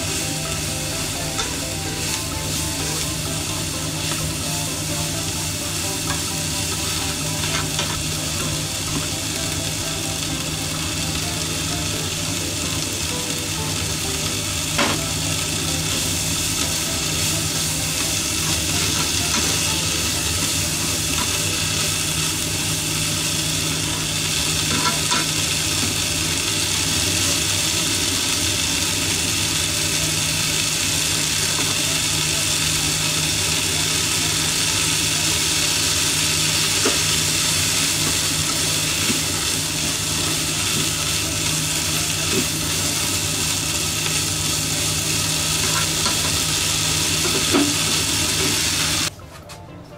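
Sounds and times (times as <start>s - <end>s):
food sizzling in frying pan: 0.0s - 49.1s.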